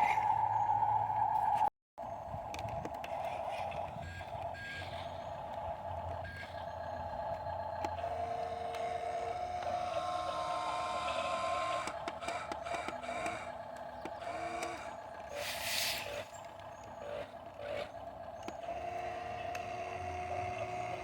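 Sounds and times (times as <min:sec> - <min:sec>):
faint shifting tones: 0:00.0 - 0:21.0
dump truck whining: 0:02.9 - 0:21.0.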